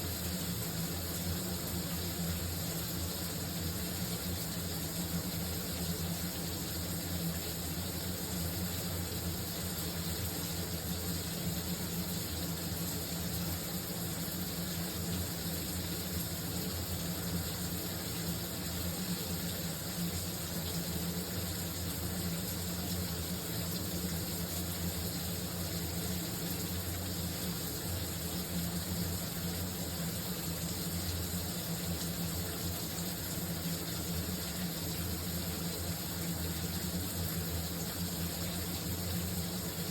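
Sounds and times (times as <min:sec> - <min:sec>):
shower running: 0:00.0 - 0:39.9.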